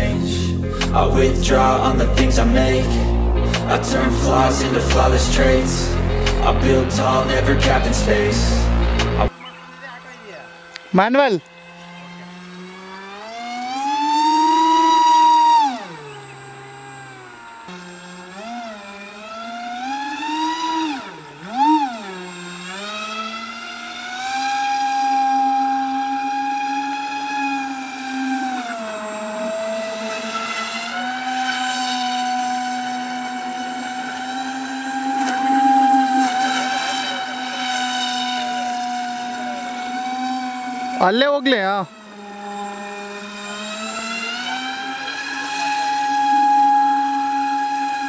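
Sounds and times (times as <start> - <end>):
electric motor propeller whine: 0.0 - 48.0.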